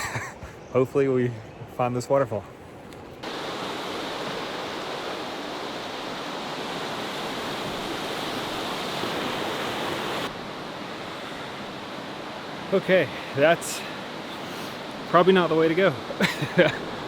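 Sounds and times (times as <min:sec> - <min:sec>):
rushing river water: 0:03.2 - 0:17.0.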